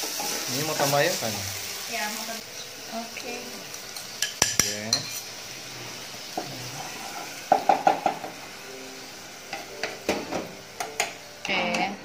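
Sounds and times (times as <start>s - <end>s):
paste sizzling in a saucepan: 0.0s - 12.0s.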